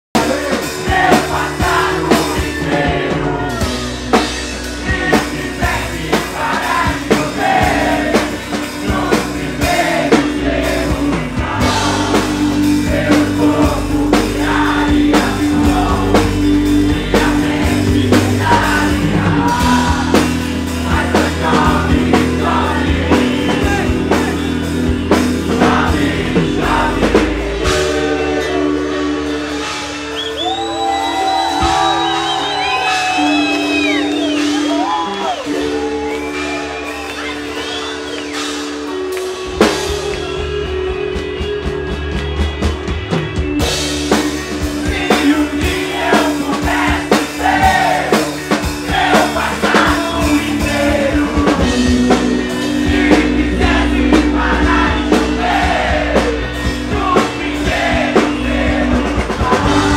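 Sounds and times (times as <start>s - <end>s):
bass guitar: 0.0s - 59.9s
rock song with vocals: 0.2s - 59.9s.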